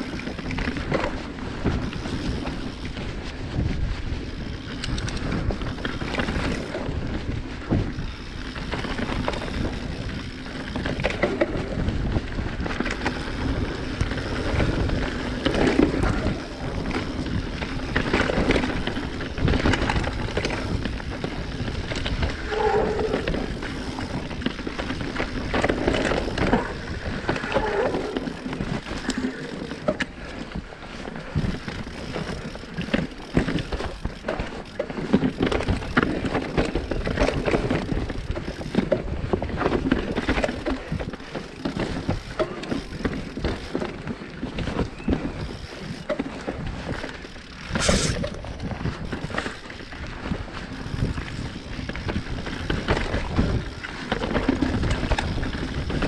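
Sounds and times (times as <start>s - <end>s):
bike rattling and knocking: 0.0s - 56.0s
bike tyres rolling over rock: 0.0s - 56.0s
wind on microphone: 0.0s - 56.0s.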